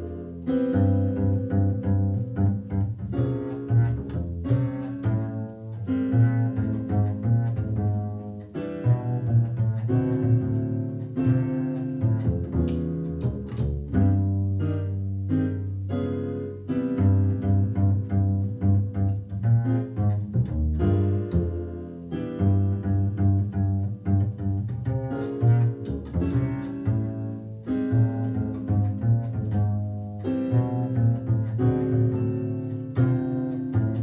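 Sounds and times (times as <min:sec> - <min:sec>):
low string bass line: 0:00.0 - 0:34.0
piano chords: 0:00.0 - 0:34.0.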